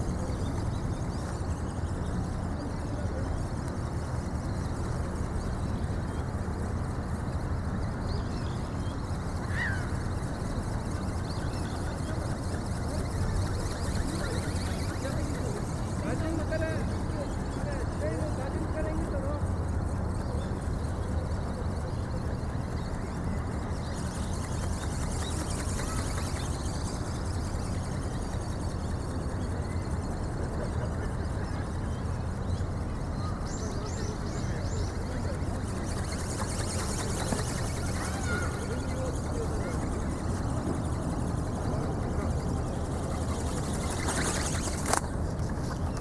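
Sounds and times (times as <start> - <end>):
faint high chirps: 0.0 - 18.8, 19.5 - 45.0
low outdoor rumble: 0.0 - 46.0.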